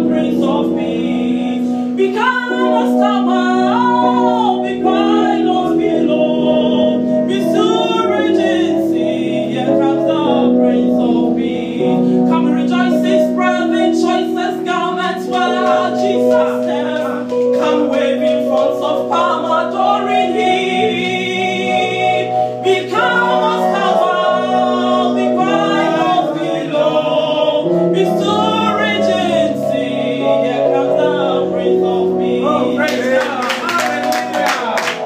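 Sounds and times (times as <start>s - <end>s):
woman singing gospel song: 0.0s - 33.4s
held backing chords: 0.0s - 35.0s.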